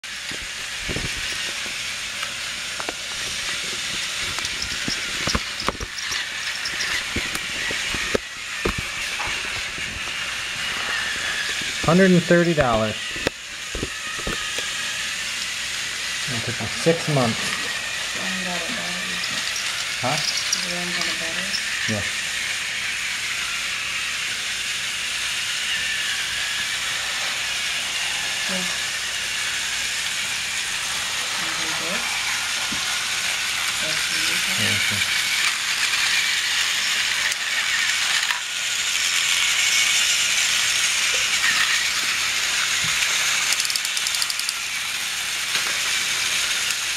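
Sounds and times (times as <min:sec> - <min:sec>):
toy train motors whirring: 0:00.0 - 0:46.9.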